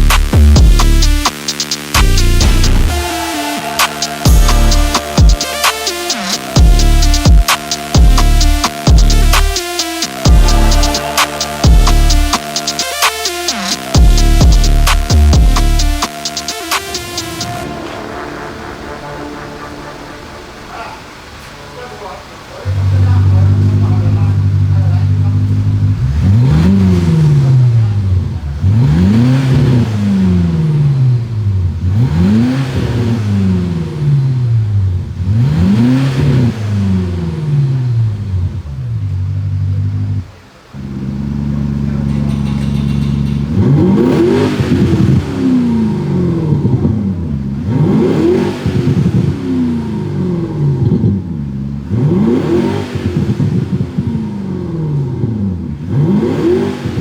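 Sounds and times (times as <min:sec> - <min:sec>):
synthesized exhaust idling: 0:00.0 - 0:32.4, 0:33.5 - 0:52.4
synthesized exhaust revving: 0:00.0 - 0:57.0.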